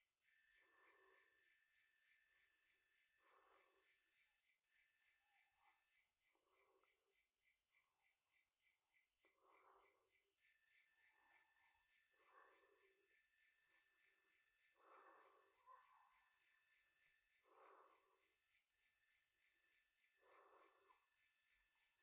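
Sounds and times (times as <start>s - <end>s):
insect chirping: 0.2s - 22.0s.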